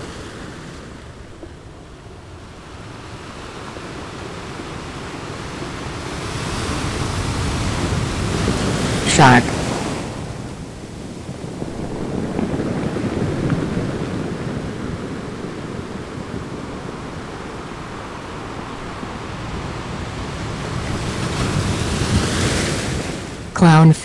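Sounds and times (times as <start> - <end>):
ocean waves: 0.0 - 24.0.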